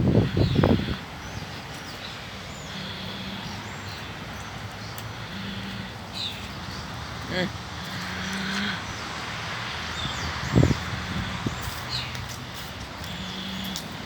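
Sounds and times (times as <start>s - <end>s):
birds chirping: 0.0s - 14.0s
low traffic hum: 0.0s - 14.0s.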